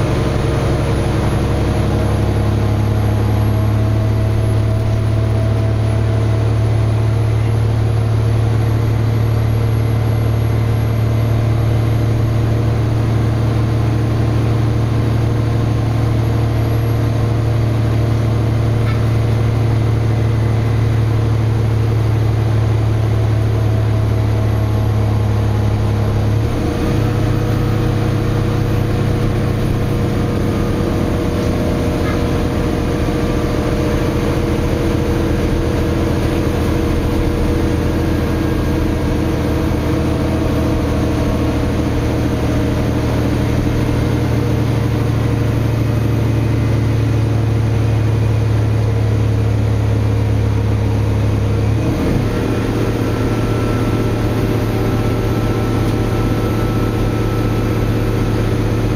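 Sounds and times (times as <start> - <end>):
bus diesel engine running: 0.0 - 58.9.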